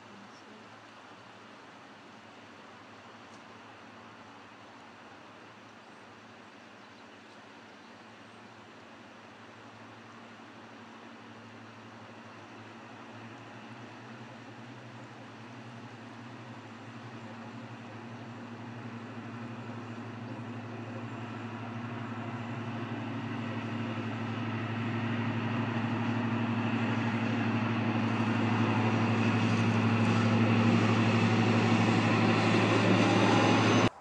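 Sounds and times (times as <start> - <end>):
diesel locomotive engine: 0.0 - 34.0.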